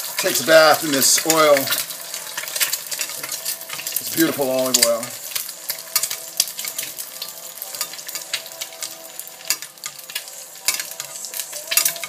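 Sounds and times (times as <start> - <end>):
egg sizzling in oil: 0.0 - 12.0.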